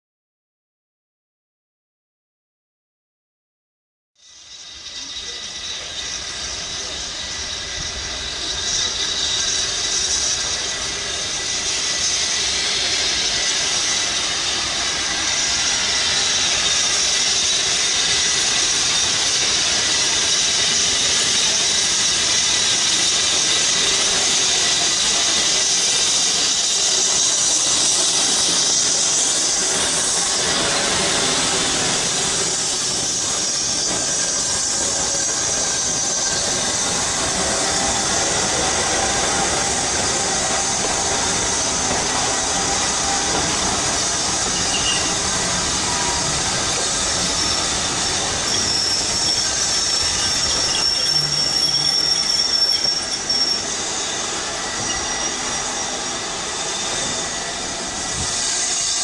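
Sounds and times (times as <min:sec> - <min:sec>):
steam hissing: 0:04.2 - 0:59.0
train on the rails: 0:04.2 - 0:59.0.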